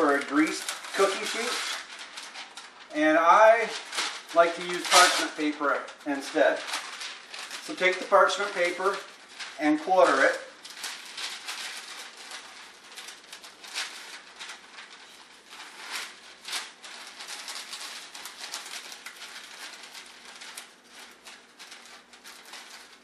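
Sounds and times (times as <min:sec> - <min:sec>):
paper crinkling and rustling: 0:00.0 - 0:23.0.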